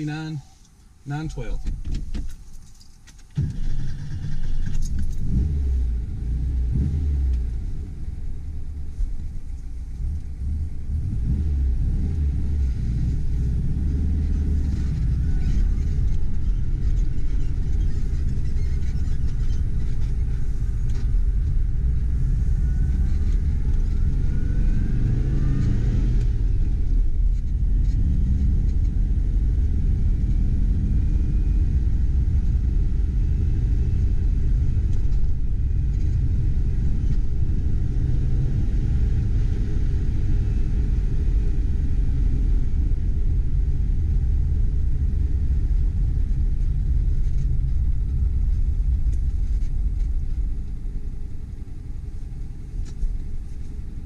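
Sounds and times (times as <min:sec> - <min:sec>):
car engine accelerating: 0:03.4 - 0:51.2.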